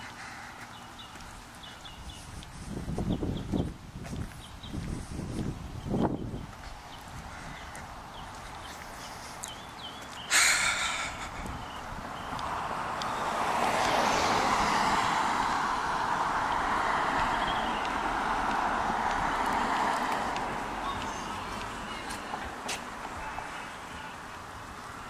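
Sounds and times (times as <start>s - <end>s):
car tyre and road noise: 0.0s - 25.0s.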